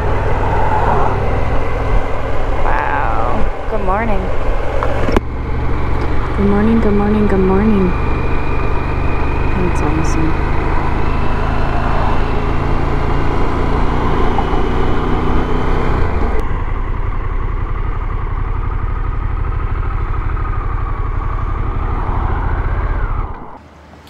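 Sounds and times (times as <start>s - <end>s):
motorcycle engine running: 0.0s - 23.6s
wind and road noise: 0.0s - 24.0s.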